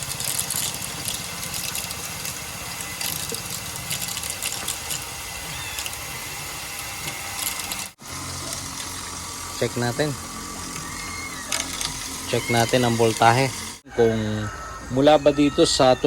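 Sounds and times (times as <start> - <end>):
turbines rattling: 0.0 - 13.8.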